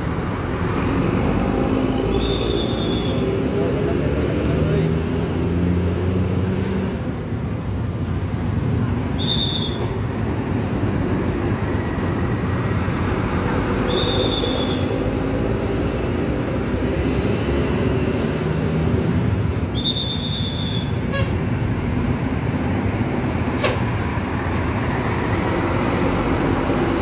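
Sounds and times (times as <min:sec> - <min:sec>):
vehicle rumbling: 0:00.0 - 0:27.0.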